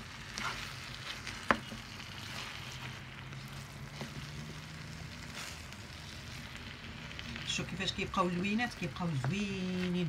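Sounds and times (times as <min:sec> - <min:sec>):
meat sizzling in a frying pan: 0:00.0 - 0:10.0
wooden spatula scraping: 0:00.0 - 0:10.0.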